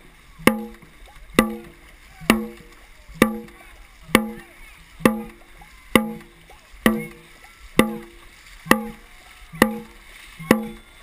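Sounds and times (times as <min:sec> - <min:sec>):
drum beaten in steady rhythm: 0:00.0 - 0:11.0
paddles splashing water: 0:00.0 - 0:11.0.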